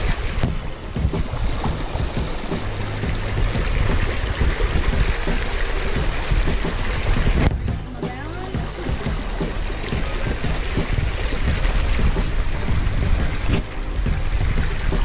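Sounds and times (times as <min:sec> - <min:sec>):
creek water over rocks: 0:00.0 - 0:15.0
low rumble: 0:00.0 - 0:15.0.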